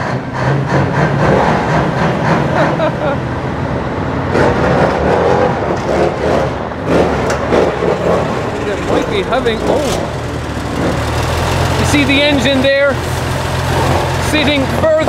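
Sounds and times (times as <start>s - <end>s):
truck diesel engines revving: 0.0s - 15.0s.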